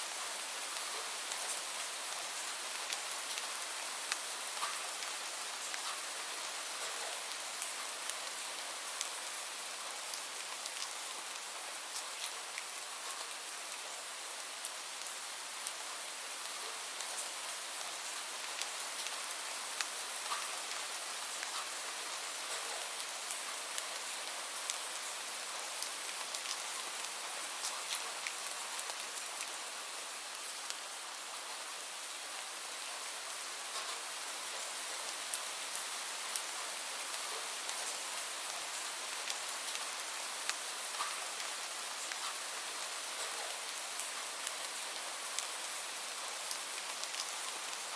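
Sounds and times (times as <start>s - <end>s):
steady rain hiss: 0.0s - 47.9s.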